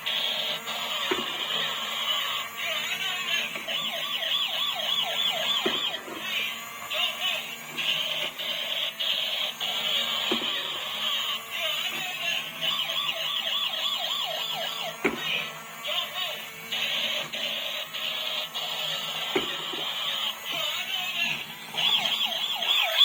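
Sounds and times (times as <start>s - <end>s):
toy electronic siren warbling: 0.0s - 23.0s.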